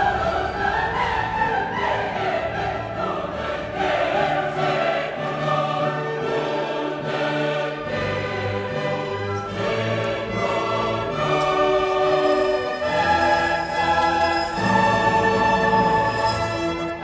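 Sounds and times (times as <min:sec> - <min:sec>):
choral music: 0:00.0 - 0:17.0.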